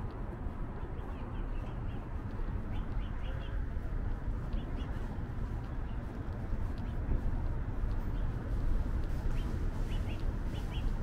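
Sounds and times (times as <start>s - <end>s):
small birds chirping: 0.0s - 8.5s, 9.2s - 11.0s
low rumble of city traffic: 0.0s - 11.0s.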